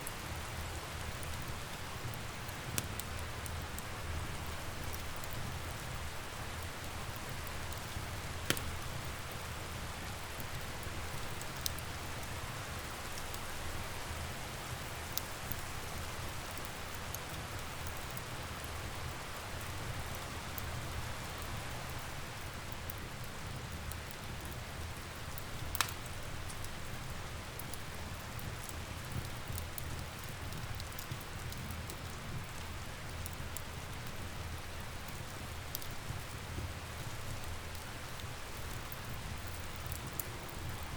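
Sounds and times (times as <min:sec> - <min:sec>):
log fire crackling and popping: 0:00.0 - 0:40.9
steady rain: 0:00.0 - 0:40.9.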